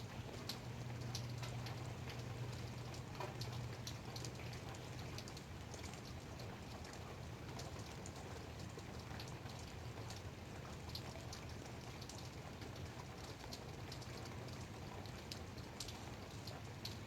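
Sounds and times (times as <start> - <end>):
light rain falling: 0.0 - 17.0
raindrops ticking on a surface: 0.0 - 17.0.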